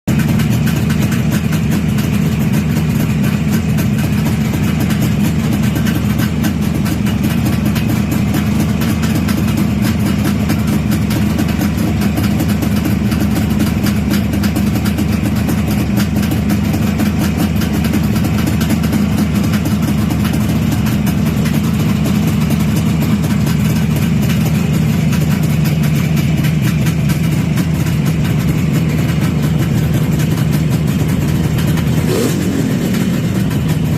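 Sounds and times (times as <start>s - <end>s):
two-stroke motorcycle engine idling: 0.1s - 33.9s.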